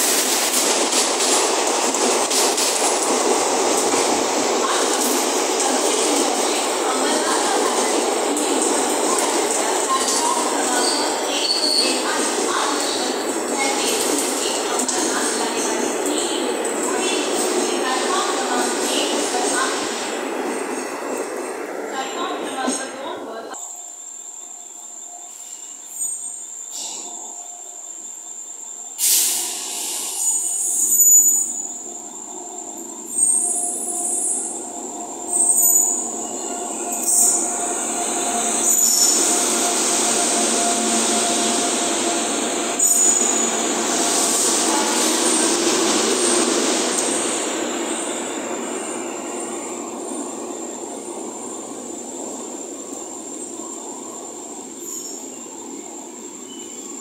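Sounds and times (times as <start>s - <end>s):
sudden loud train sounds: 0.0s - 23.6s, 29.0s - 53.6s
train passing on rails: 0.0s - 57.0s.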